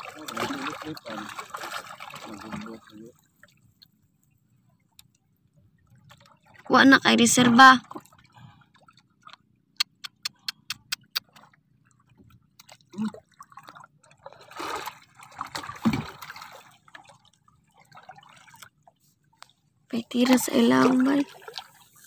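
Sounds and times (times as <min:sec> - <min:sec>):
water lapping against a boat: 0:00.0 - 0:22.0.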